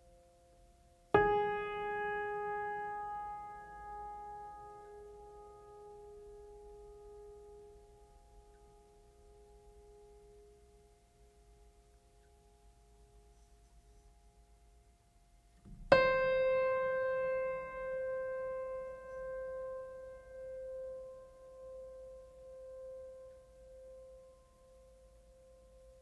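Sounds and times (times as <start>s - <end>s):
faint held music tones: 0.0s - 26.0s.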